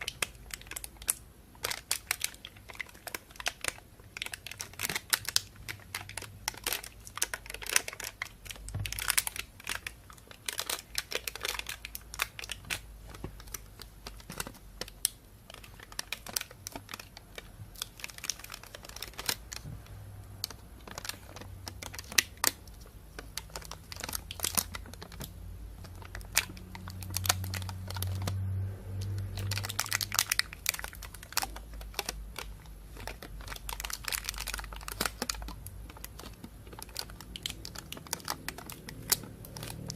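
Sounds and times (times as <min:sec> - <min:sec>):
plastic bag crinkling: 0:00.0 - 0:39.9.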